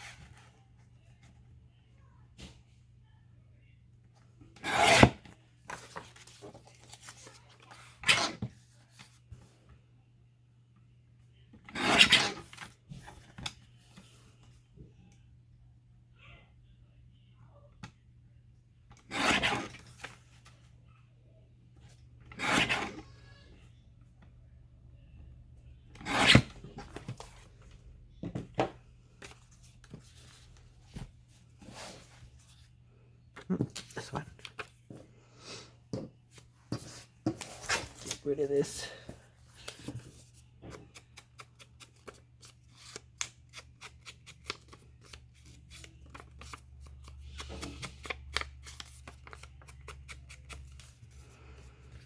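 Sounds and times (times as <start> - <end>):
faint low hum: 0.0 - 11.8, 12.4 - 52.0.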